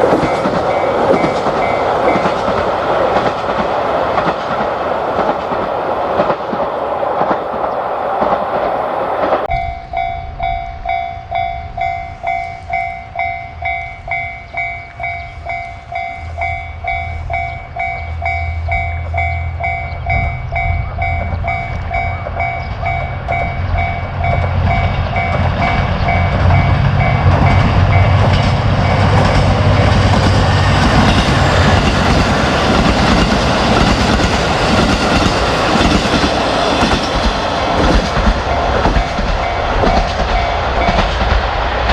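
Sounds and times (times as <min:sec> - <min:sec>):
level-crossing warning bell: 0:00.0 - 0:04.8, 0:09.4 - 0:41.3
diesel train engine hum: 0:00.0 - 0:41.9
train noise: 0:00.0 - 0:41.9.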